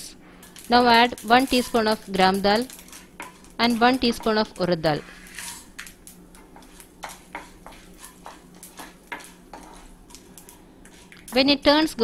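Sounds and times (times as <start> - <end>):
lentils sizzling in oil: 0.4 - 12.0.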